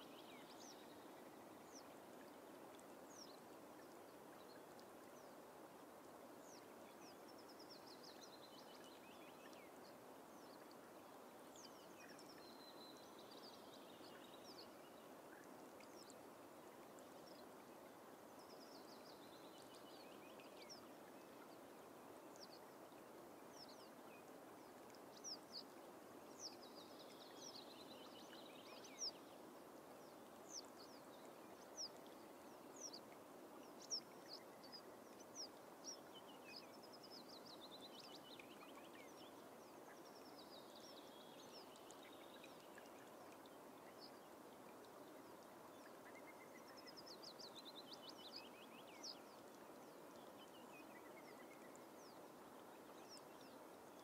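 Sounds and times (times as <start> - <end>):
steady low hiss: 0.0 - 54.0.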